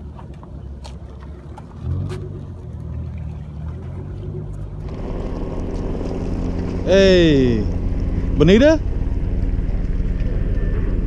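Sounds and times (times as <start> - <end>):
motor engine humming: 0.0 - 11.0.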